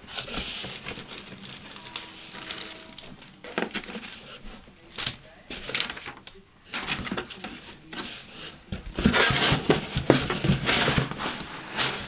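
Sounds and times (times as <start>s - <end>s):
rustling in cardboard box: 0.0s - 12.0s.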